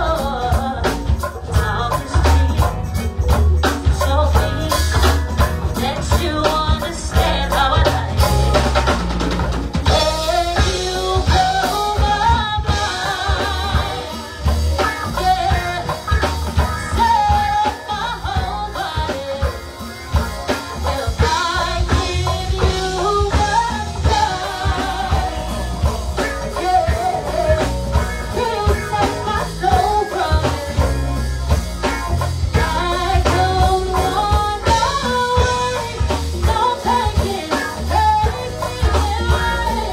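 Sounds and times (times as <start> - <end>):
person singing lead vocal: 0.0 - 9.2, 9.9 - 39.9
drum kit and congas beat: 0.0 - 39.9
electric bass line: 0.0 - 39.9.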